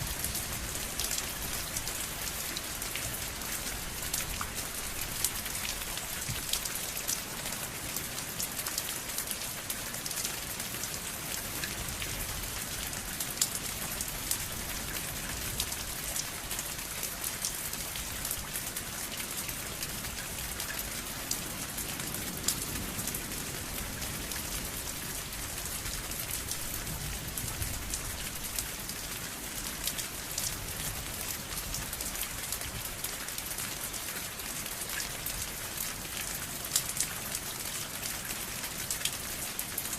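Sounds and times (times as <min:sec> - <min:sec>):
raindrops ticking on surface: 0:00.0 - 0:39.9
steady rain hiss: 0:00.0 - 0:39.9.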